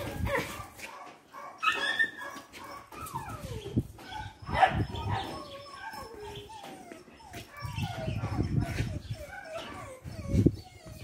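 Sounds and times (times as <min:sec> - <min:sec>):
dogs yelping: 0:00.0 - 0:11.0
dogs whining: 0:01.5 - 0:11.0.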